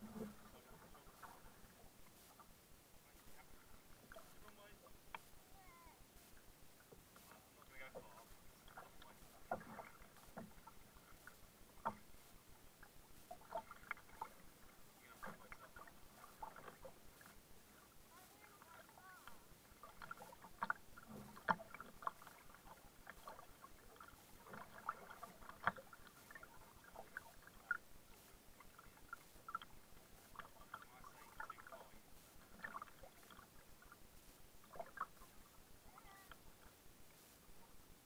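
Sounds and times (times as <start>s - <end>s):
paddle splashing water: 0.0s - 38.0s.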